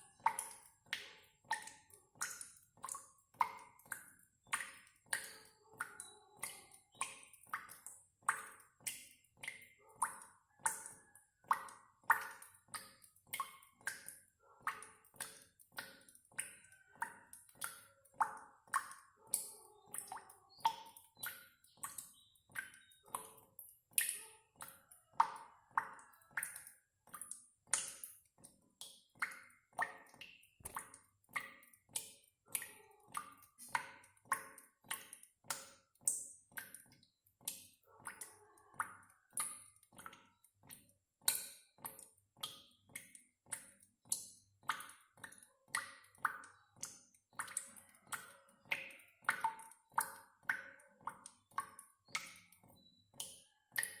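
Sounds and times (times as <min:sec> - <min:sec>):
water dripping: 0:00.0 - 0:54.0.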